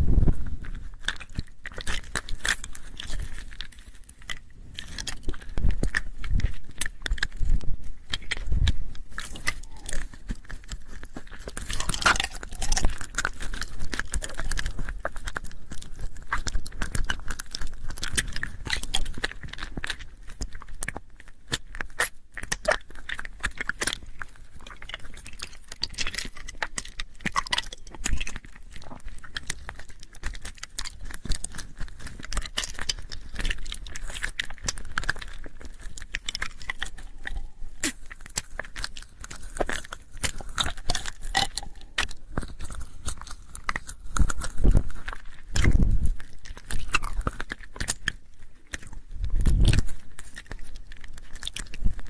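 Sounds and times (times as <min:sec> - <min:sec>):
wet mouth clicks and smacks: 0:00.1 - 0:52.0.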